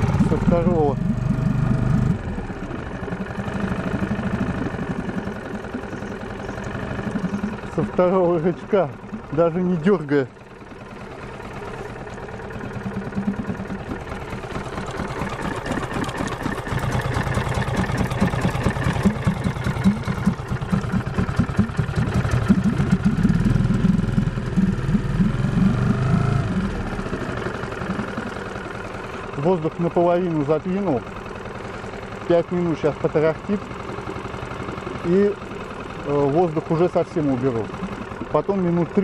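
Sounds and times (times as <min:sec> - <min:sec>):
outboard motor idling: 0:00.0 - 0:39.0.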